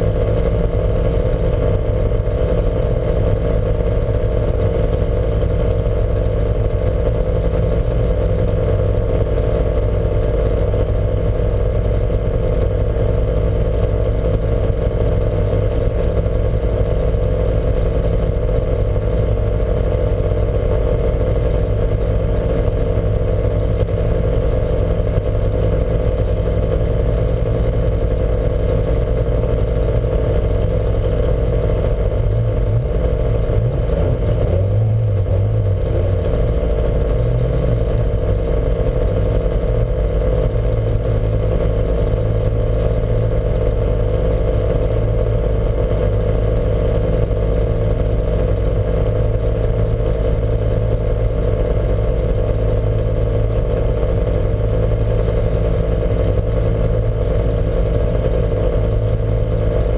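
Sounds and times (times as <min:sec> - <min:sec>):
car engine running loudly: 0:00.0 - 0:59.9.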